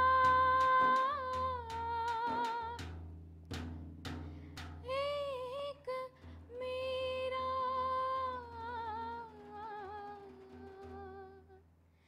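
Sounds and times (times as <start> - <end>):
woman singing unaccompanied: 0.0 - 2.9, 4.8 - 11.6.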